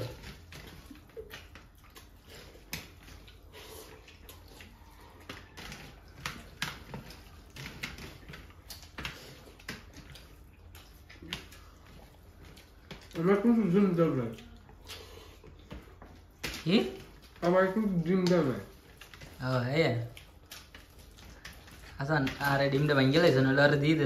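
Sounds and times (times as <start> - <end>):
chewing mouth sounds: 0.0 - 23.0
hands squishing rice: 0.0 - 24.0.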